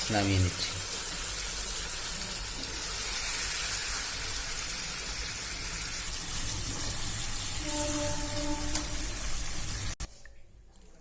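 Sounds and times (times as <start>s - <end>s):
curry sizzling in a pan: 0.0s - 10.0s.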